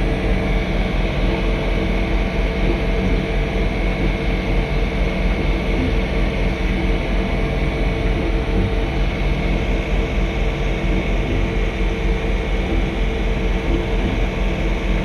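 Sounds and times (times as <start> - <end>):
steady machine tones: 0.0 - 15.0.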